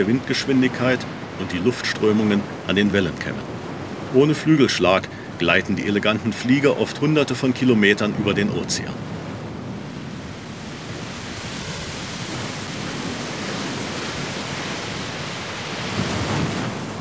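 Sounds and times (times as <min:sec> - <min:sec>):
sea: 0:00.0 - 0:17.0
wind: 0:00.0 - 0:17.0.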